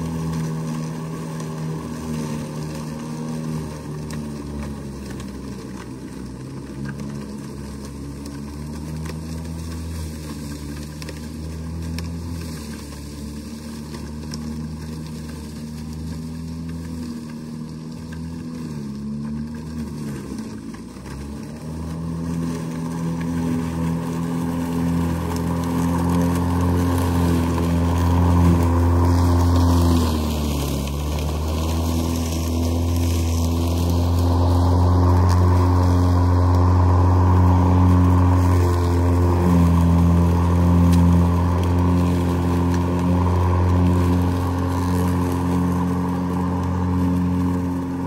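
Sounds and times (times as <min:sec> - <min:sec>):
electric lawn mower cutting grass: 0:00.0 - 0:48.0.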